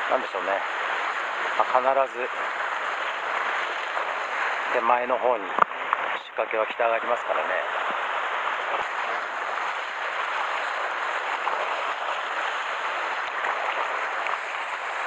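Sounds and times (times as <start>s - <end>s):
sea surf on rocky shore: 0.0s - 15.0s.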